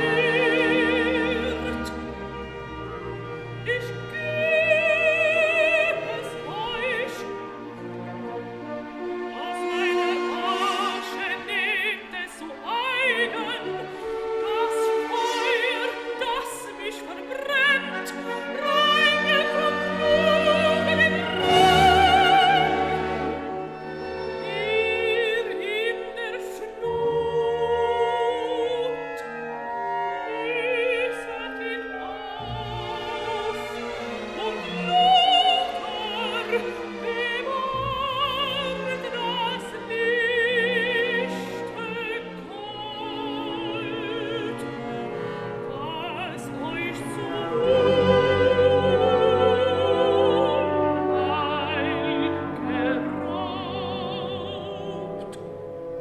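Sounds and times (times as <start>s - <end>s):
operatic singing with orchestra: 0.0s - 56.0s.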